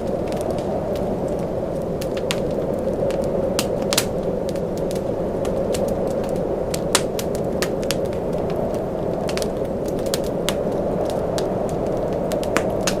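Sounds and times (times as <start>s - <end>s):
blizzard wind roaring: 0.0s - 13.0s
wood fire crackling and popping: 0.0s - 13.0s.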